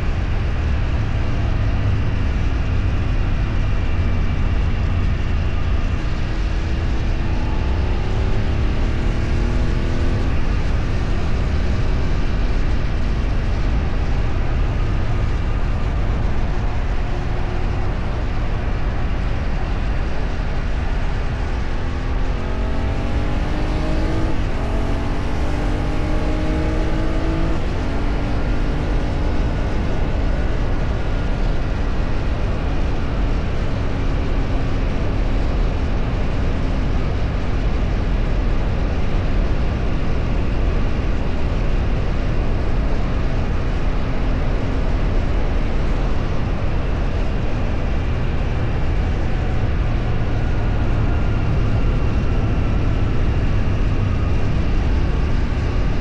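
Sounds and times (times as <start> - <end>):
road and wind noise: 0.0 - 56.0
vehicle engine accelerating: 0.0 - 56.0.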